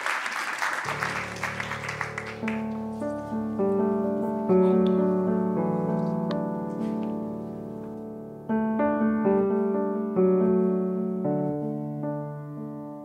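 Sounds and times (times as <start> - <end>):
slow piano chords: 0.9 - 13.0.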